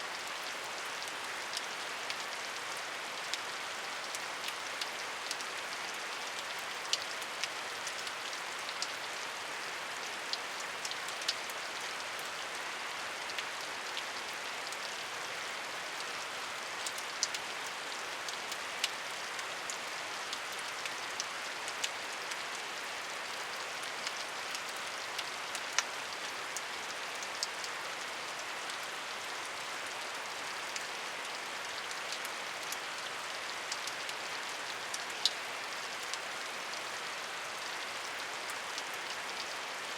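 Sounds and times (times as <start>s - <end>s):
rain drops ticking on surface: 0.0s - 39.9s
steady rain falling: 0.0s - 39.9s.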